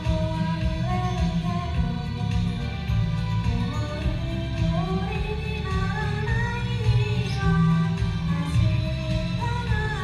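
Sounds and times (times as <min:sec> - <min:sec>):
live pop ballad music: 0:00.0 - 0:10.0.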